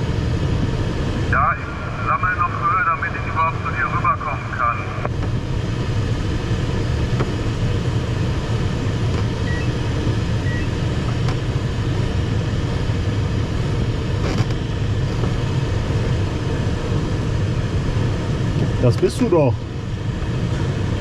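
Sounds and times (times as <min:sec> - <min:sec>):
airflow rushing in cockpit: 0:00.0 - 0:21.0.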